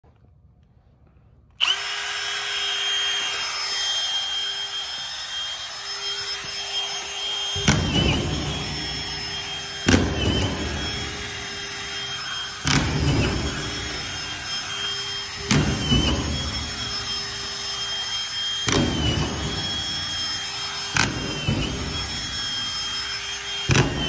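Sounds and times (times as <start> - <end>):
screw grinding into drywall: 1.6 - 24.0
screw gun whining: 1.6 - 24.0.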